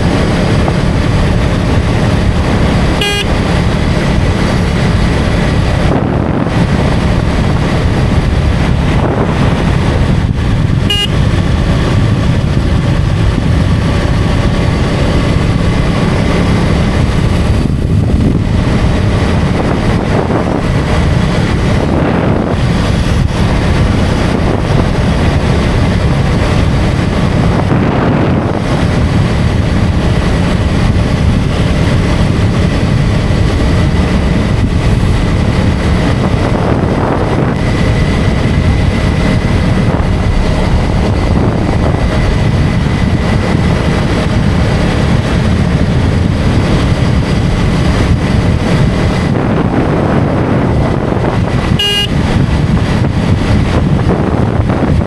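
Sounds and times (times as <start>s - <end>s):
motorcycle engine running: 0.0s - 55.0s
road noise: 0.0s - 55.0s
wind rush on microphone: 0.0s - 55.0s.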